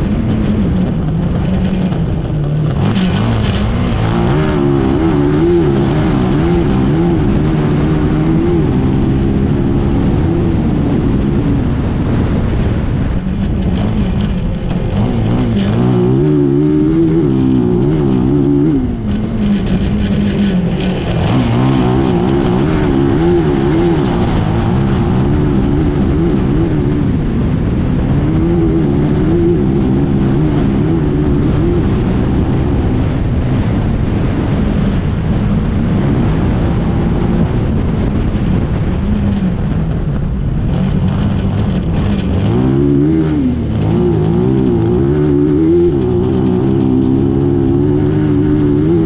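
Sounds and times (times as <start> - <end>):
off-road buggy engine revving: 0.0 - 49.0.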